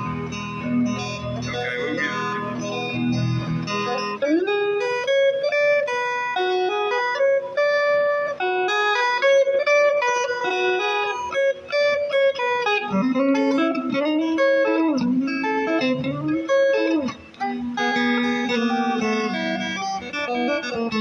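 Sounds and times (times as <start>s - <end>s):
guitar picking melody: 0.0s - 21.0s.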